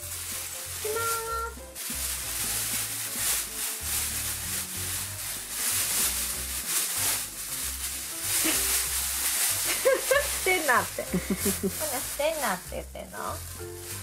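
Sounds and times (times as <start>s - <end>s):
background music: 0.0s - 14.0s
plastic bag rustling: 0.0s - 14.0s.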